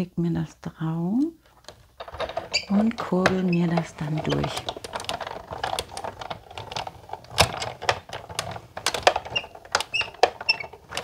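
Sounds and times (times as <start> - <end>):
die-cutting machine clicks and knocks: 1.7 - 11.0.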